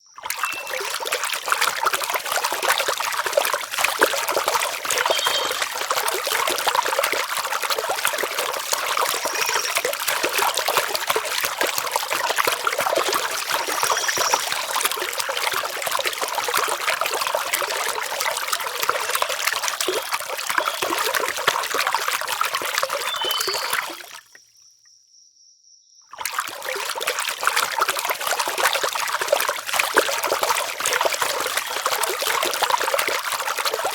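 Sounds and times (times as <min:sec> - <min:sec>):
water trickling and splashing: 0:00.0 - 0:24.4, 0:26.1 - 0:33.9.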